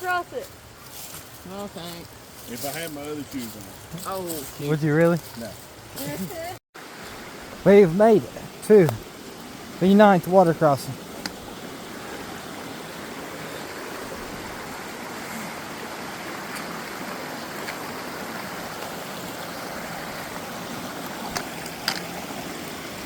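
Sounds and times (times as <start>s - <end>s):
creek rushing over rocks: 2.0s - 23.0s.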